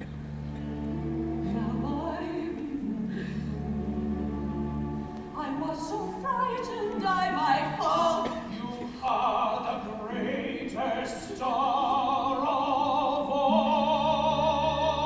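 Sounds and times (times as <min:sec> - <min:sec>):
orchestra music with singing: 0:00.0 - 0:15.0.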